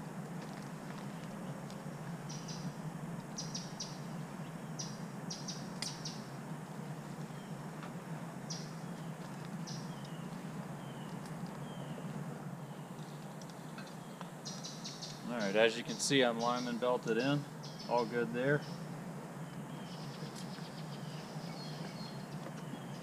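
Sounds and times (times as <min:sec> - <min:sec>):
birds chirping: 0:00.0 - 0:23.0
low background hum: 0:00.0 - 0:23.0.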